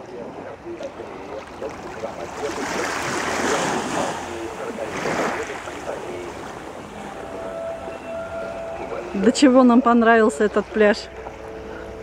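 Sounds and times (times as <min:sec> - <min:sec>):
small waves lapping on shore: 0:00.0 - 0:12.0.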